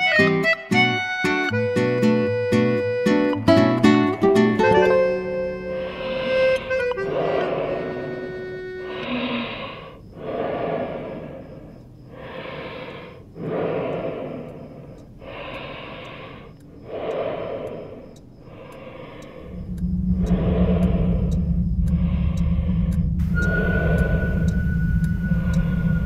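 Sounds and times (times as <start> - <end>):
heavy slow breathing: 4.2 - 26.0.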